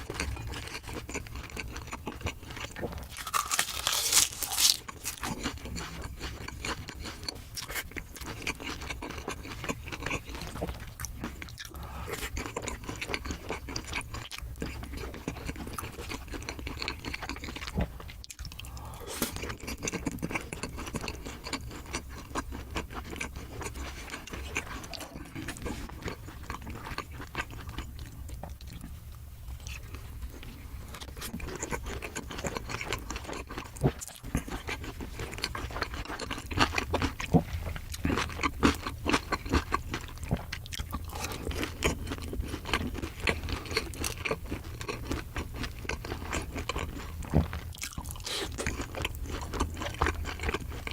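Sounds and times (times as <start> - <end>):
crunchy bites and wet chewing: 0.0 - 28.9, 30.9 - 50.9.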